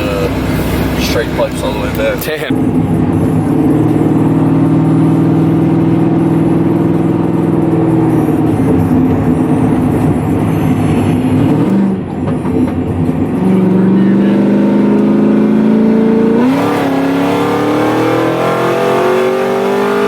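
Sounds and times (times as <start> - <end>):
loud car engine: 0.0 - 20.0.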